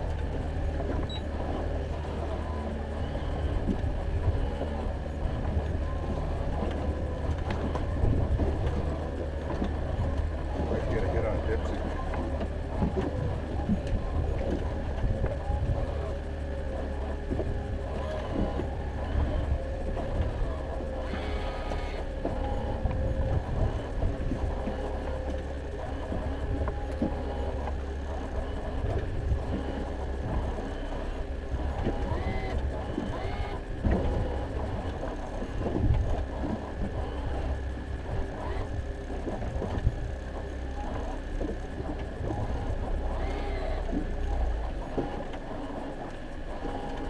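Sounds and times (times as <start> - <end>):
boat motor running: 0.0 - 47.0.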